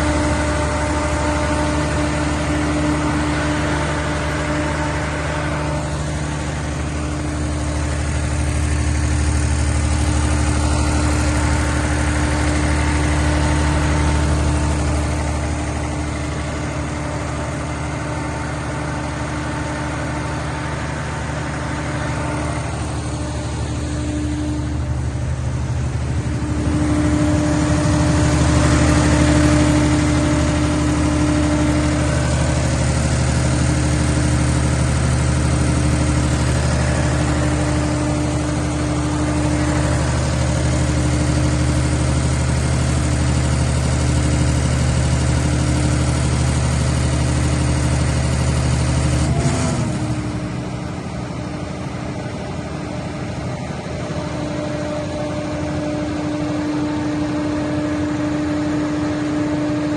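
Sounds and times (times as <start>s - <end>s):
diesel generator humming: 0.0s - 59.9s.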